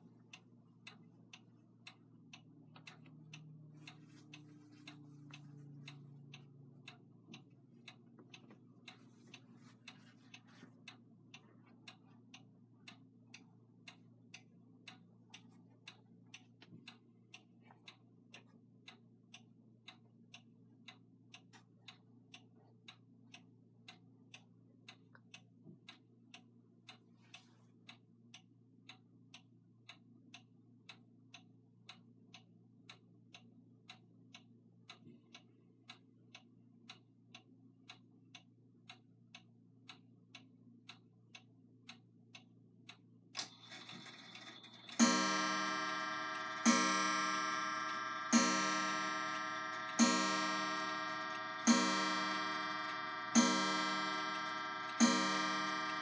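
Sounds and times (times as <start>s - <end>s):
wall clock ticking: 0.0s - 27.1s, 27.9s - 56.0s.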